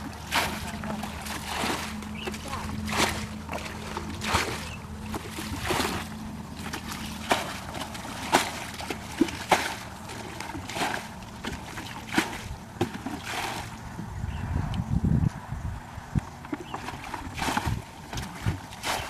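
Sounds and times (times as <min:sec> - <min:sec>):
bucket splashing ditch water: 0:00.0 - 0:14.2, 0:16.3 - 0:19.0.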